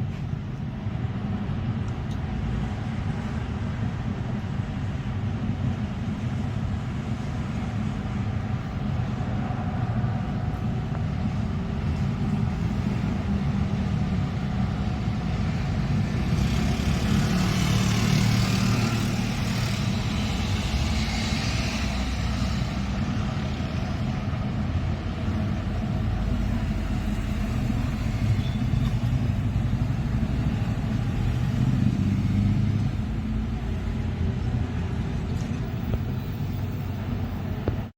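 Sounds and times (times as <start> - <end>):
freight train rumbling past: 0.0 - 37.9
wheels hissing on track: 2.4 - 37.7.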